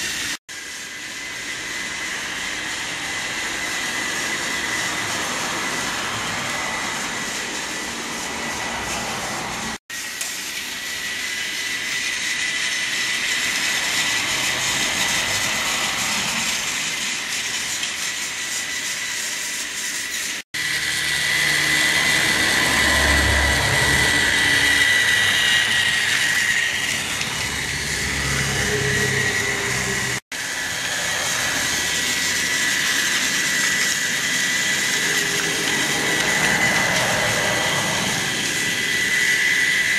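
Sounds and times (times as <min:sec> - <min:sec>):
toy train motor whine: 0:00.0 - 0:39.9.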